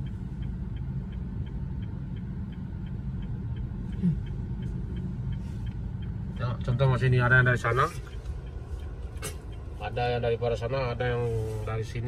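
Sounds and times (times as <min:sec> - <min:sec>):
car cabin rumble: 0:00.0 - 0:12.0
turn signal ticking: 0:00.0 - 0:12.0.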